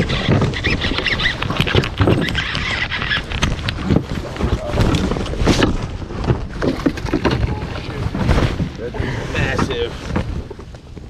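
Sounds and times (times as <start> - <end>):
handling clicks and rustles: 0.0 - 11.0
wind buffeting microphone: 0.0 - 11.0.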